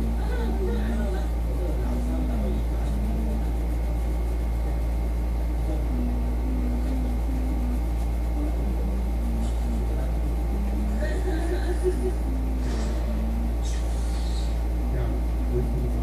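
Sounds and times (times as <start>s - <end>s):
faint indistinct voices: 0.0s - 16.0s
steady low hum: 0.0s - 16.0s.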